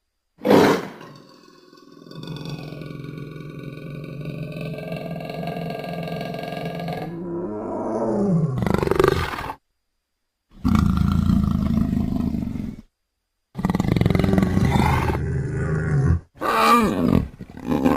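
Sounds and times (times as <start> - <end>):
big cat roaring: 0.5 - 9.6, 10.6 - 12.9, 13.6 - 17.9.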